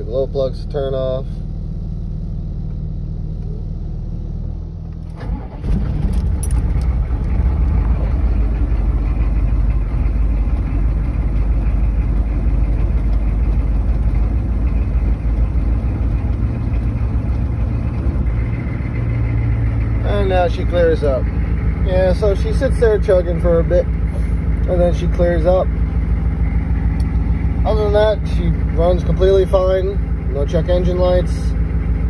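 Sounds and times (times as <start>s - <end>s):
diesel engine chugging: 0.0s - 32.0s.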